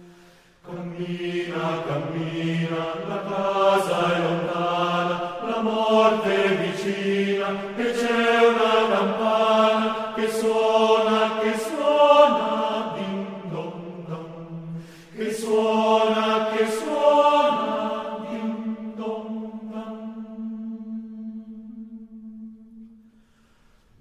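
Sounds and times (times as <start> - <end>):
choir singing a hymn: 0.0 - 22.9.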